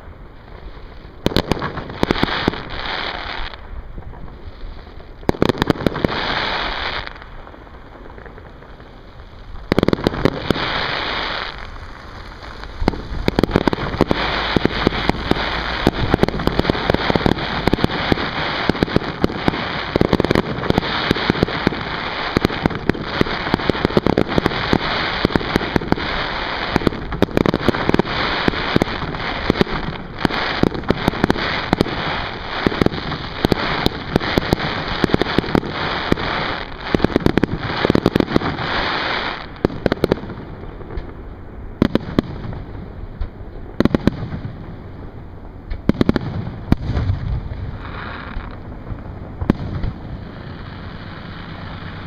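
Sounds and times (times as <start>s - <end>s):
fireworks bangs and pops: 0.0s - 52.0s
steady hiss: 0.0s - 52.0s.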